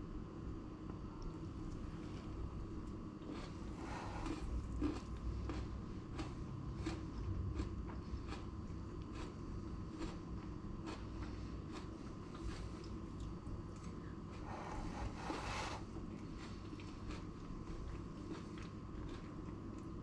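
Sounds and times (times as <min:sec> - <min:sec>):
steady low hum: 0:00.0 - 0:20.0
chewing crisp leaves: 0:01.0 - 0:20.0.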